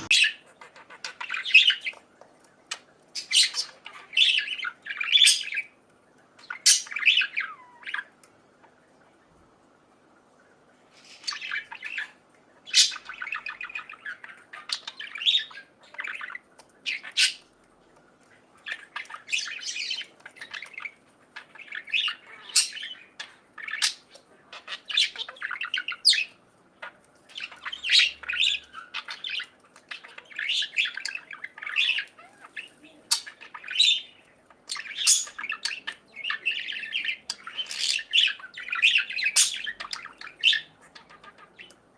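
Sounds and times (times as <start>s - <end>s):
budgerigars chirping: 0.0s - 5.8s, 6.4s - 8.8s, 10.9s - 17.5s, 18.2s - 41.8s.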